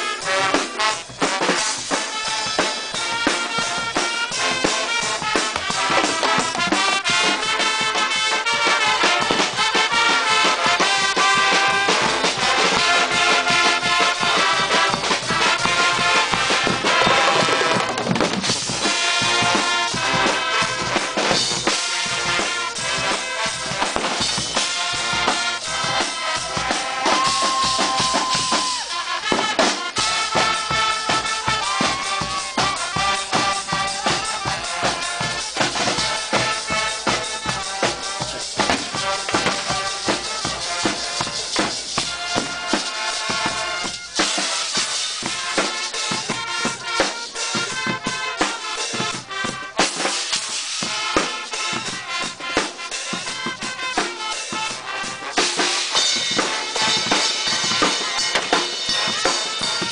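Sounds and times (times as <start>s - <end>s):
brass section holding notes: 0.0s - 18.1s, 18.7s - 59.9s
bass drum and snare drum beat: 0.0s - 59.9s.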